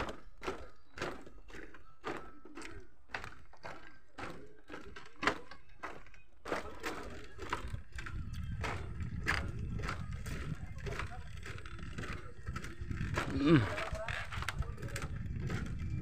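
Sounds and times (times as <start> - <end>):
footsteps on bamboo slats: 0.0 - 16.0.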